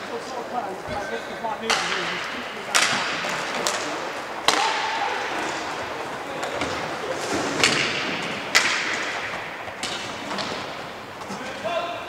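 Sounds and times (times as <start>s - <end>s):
skate wheels rolling: 0.0s - 12.0s
hockey stick hitting puck: 1.6s - 11.8s.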